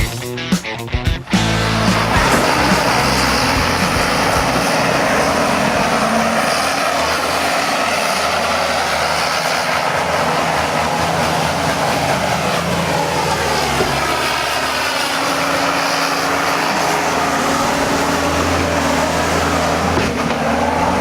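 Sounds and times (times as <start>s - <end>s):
vehicle engine and road noise: 1.2s - 21.0s.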